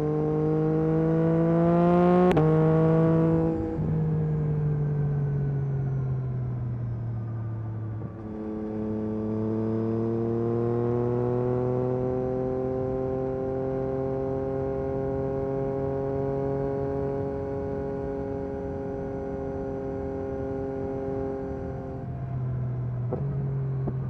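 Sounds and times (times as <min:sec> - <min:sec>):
motorcycle engine on the move: 0:00.0 - 0:24.0.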